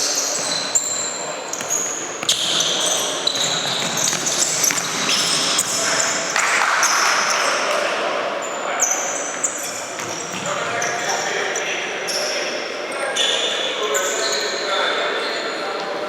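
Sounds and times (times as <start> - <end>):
sneakers squeaking on floor: 0.0 - 7.6, 8.4 - 16.0.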